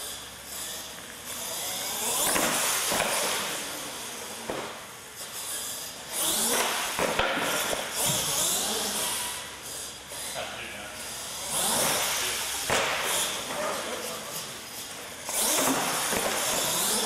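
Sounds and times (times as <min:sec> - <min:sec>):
toy truck motor whining: 0:00.0 - 0:17.0.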